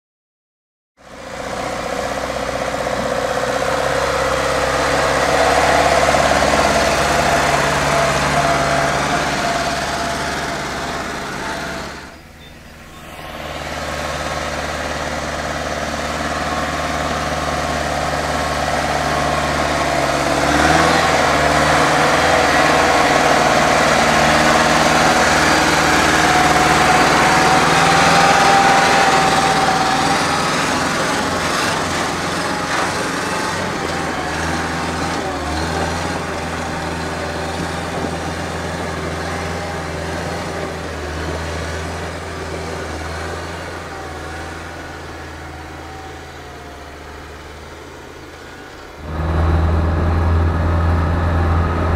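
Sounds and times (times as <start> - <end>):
diesel truck engine running: 1.0 - 51.9.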